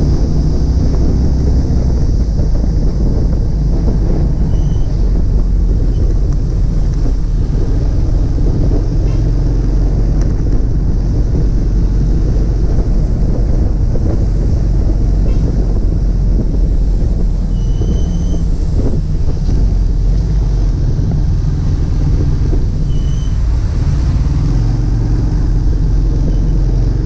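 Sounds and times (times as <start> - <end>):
car driving rumble: 0.0 - 27.0
wind buffeting microphone: 0.0 - 27.0.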